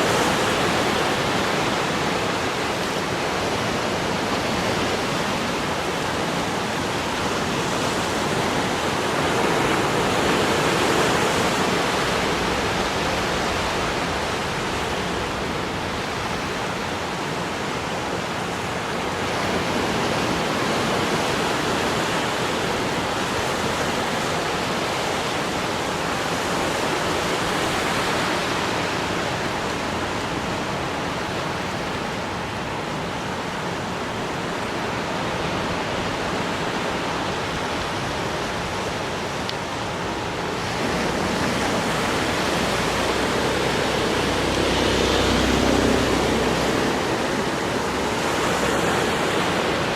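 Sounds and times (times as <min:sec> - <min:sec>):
waves breaking on beach: 0:00.0 - 0:49.9.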